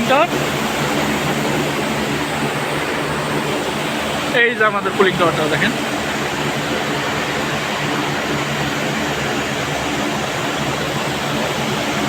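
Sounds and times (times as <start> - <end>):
water rushing through cooling tower: 0.0 - 12.0.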